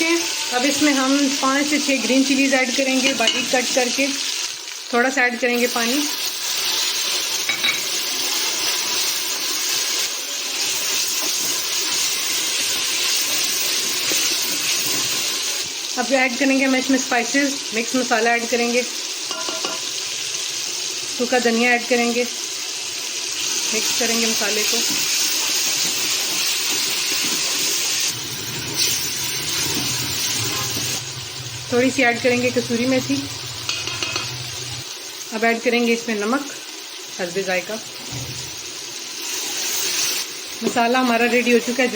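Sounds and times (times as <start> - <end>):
masala sizzling in a pot: 0.0 - 41.9.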